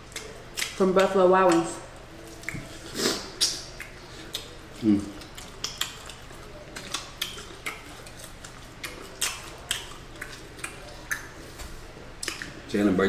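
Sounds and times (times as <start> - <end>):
mouth chewing wetly: 0.0 - 11.5, 12.2 - 12.7.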